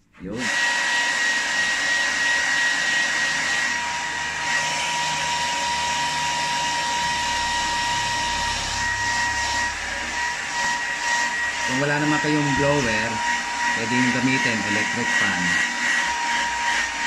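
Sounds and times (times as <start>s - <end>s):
hair dryer running: 0.3s - 17.0s.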